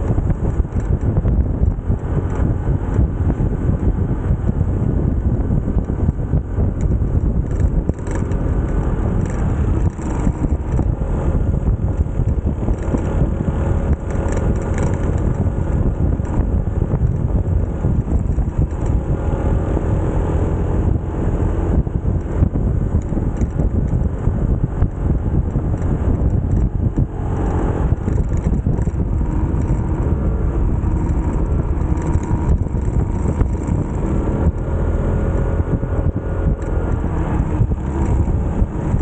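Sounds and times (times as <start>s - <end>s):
motorcycle engine running: 0.0s - 39.0s
wind rumble on microphone: 0.0s - 39.0s.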